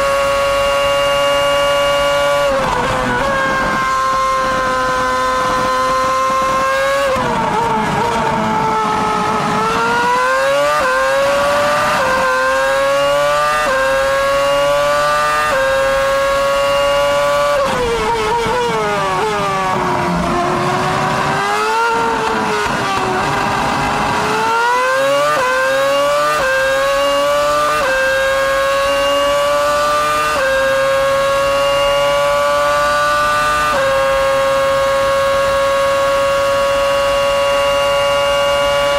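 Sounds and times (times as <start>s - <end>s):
racing car engine revving: 0.0s - 38.9s.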